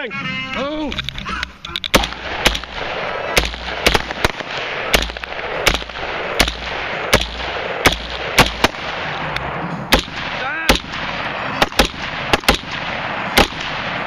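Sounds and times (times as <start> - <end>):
continuous rough noise: 0.0 - 14.0
rifle gunshots: 1.8 - 14.0.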